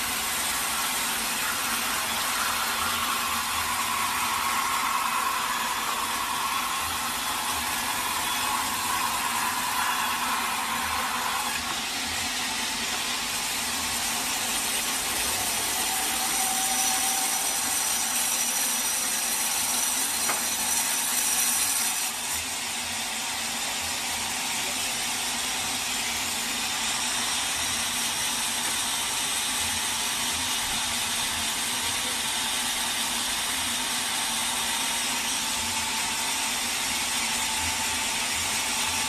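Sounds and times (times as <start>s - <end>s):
saw cutting through log: 0.0s - 39.0s.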